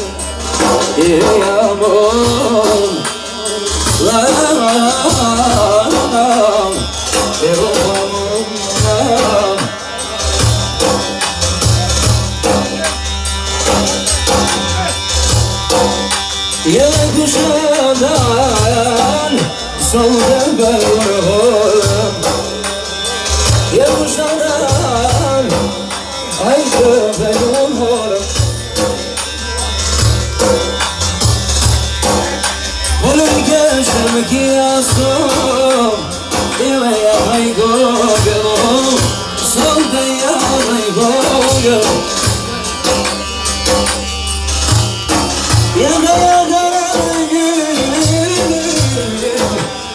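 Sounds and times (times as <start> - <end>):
folk dance music: 0.0 - 49.9
heavy drum and bass beat: 0.0 - 49.9.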